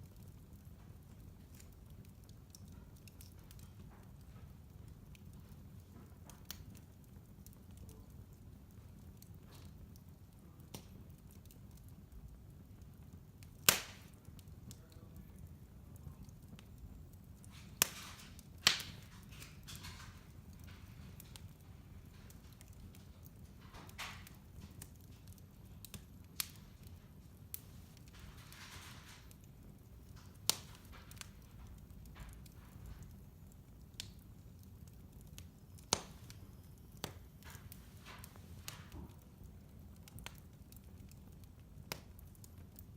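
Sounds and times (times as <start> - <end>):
fire crackling: 0.0 - 42.9
wood fire popping: 0.0 - 42.9
fire hissing: 0.4 - 42.9.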